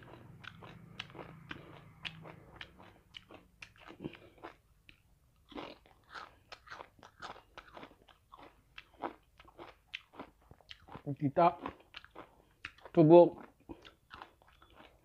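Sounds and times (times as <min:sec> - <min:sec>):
crisp chewing crunches: 0:00.0 - 0:15.0.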